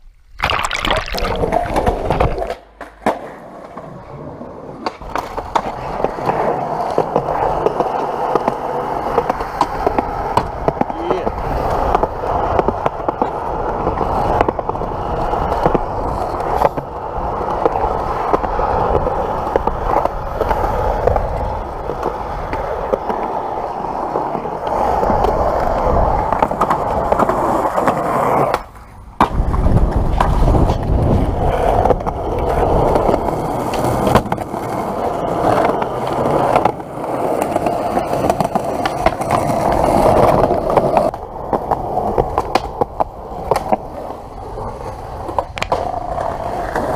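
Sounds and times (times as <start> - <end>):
skateboard wheels rolling on concrete: 0.0 - 46.9
skateboard clacking on ground: 1.4 - 46.9.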